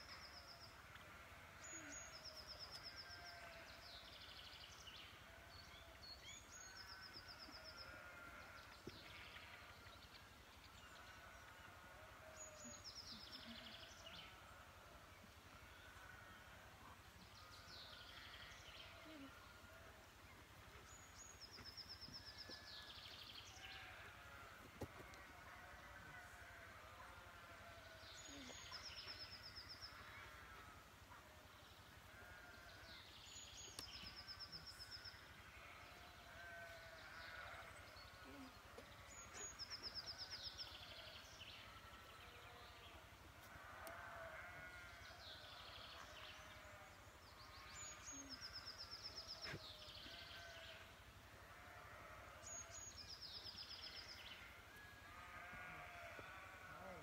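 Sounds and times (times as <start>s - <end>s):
faint overlapping animal calls: 0.0s - 57.0s.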